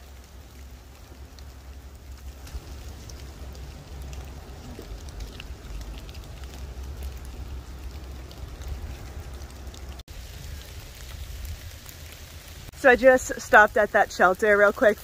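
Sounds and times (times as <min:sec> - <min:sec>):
low rumble: 0:00.0 - 0:12.8
rain on wet leaves: 0:00.0 - 0:15.0.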